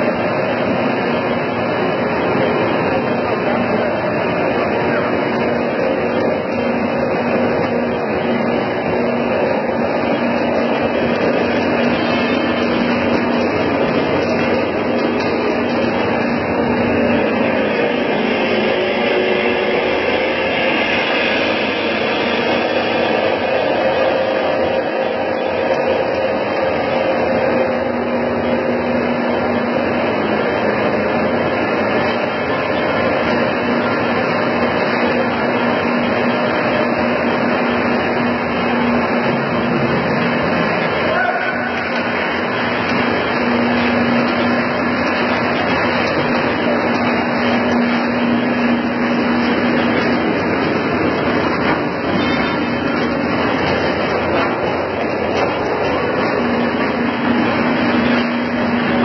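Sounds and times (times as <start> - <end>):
constant hum: 0.0 - 59.0
electric motors and fans whirring: 0.0 - 59.0
frying line machinery running: 0.0 - 59.0
lower hum: 0.0 - 59.0.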